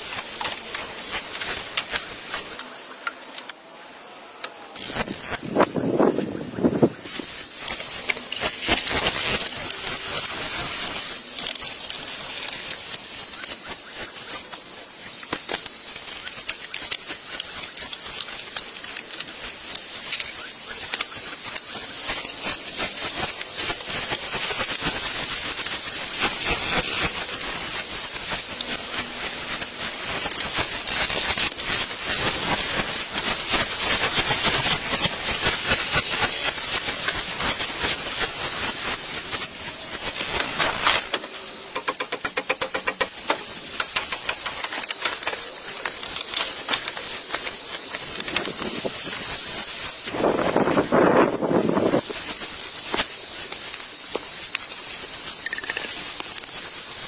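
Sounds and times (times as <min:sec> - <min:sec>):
high hissing noise: 0:00.0 - 0:57.0
small crackles and ticks: 0:00.0 - 0:57.0.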